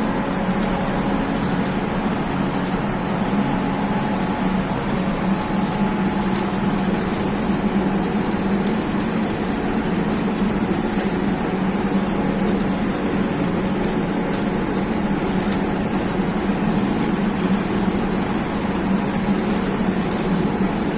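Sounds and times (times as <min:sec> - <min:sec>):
hiss and faint crackle: 0:00.0 - 0:20.9.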